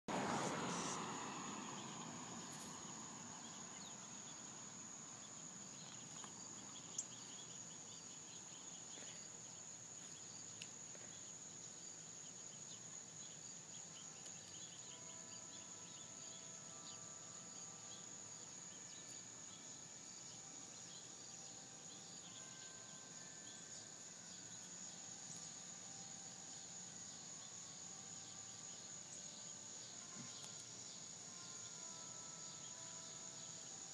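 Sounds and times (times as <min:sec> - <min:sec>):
insects chirring: 0:00.1 - 0:33.9.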